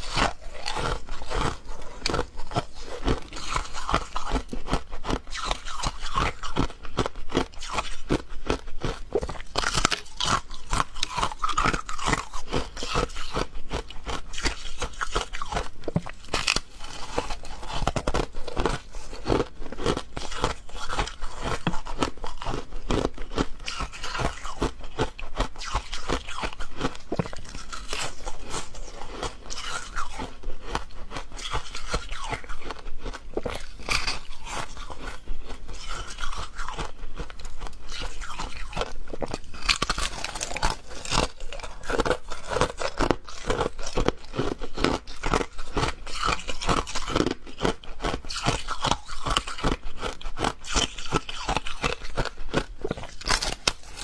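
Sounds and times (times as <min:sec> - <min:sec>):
ice crunching between teeth: 0:00.0 - 0:54.0.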